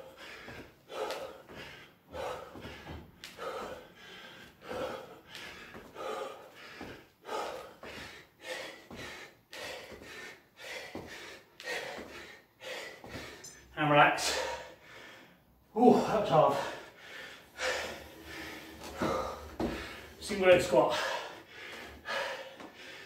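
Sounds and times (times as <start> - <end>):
man breathing hard: 0.0 - 23.0.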